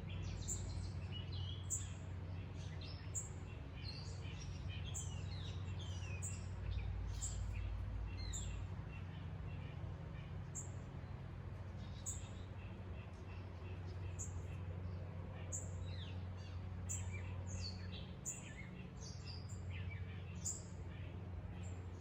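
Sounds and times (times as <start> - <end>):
birds chirping and singing: 0.1 - 9.7, 11.8 - 21.8.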